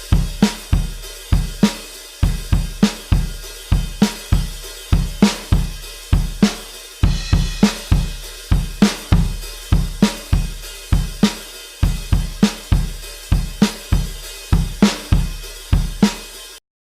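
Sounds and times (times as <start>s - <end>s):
rock drum beat: 0.0s - 16.6s.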